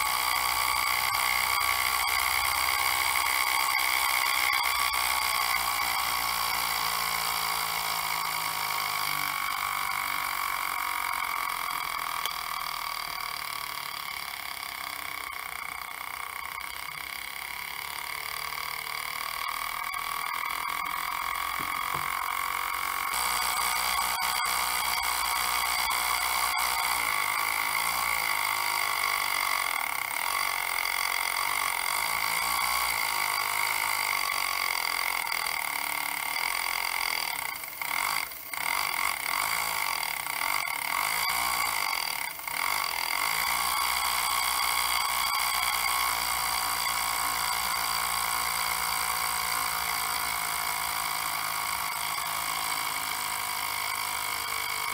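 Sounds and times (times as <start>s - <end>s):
model steam engine humming: 0.0s - 54.9s.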